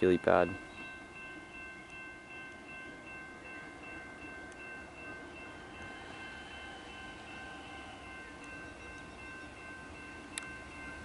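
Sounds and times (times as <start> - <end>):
electric train approaching: 0.0 - 11.0.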